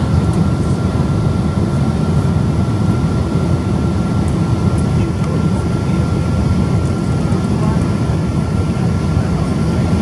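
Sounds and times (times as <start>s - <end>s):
airliner cabin engine roar: 0.0s - 10.0s.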